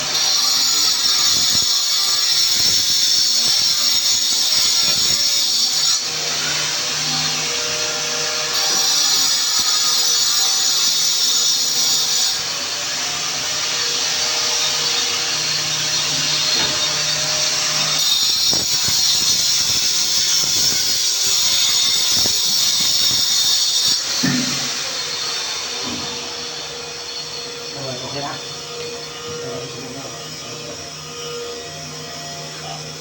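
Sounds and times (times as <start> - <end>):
electric power tool running: 0.0 - 33.0.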